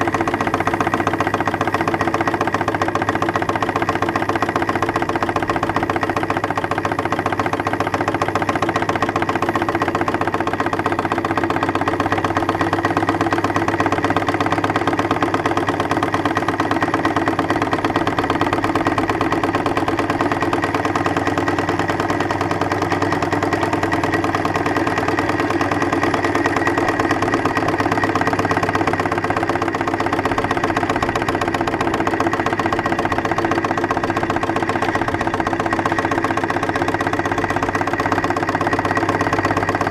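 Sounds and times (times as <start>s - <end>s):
model steam engine running: 0.0s - 39.9s.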